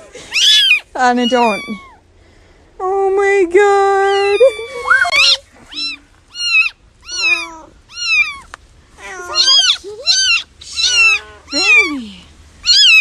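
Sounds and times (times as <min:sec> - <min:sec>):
kittens mewing: 0:00.0 - 0:02.1, 0:04.0 - 0:13.0.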